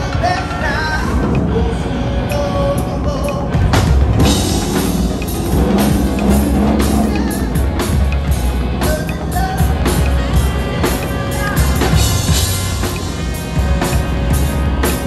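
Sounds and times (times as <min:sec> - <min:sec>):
drum kit beats: 0:00.0 - 0:15.0
low bass line: 0:00.0 - 0:15.0.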